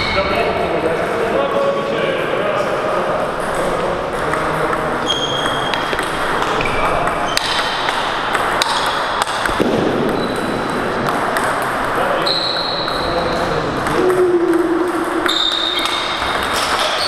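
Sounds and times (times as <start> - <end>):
hall background noise: 0.0 - 17.0
table tennis balls pinging: 0.0 - 17.0.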